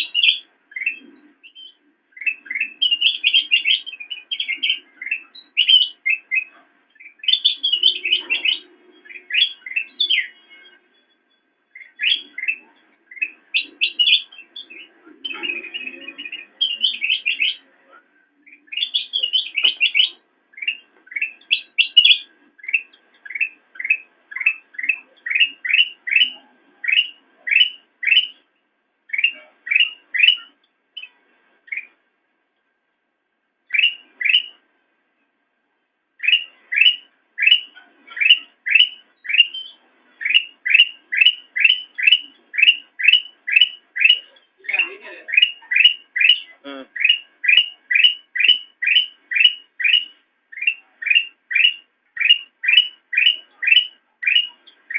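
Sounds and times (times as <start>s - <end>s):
bird singing sharp upward notes: 0.0s - 28.5s, 29.1s - 32.0s, 33.7s - 34.7s, 36.2s - 54.9s.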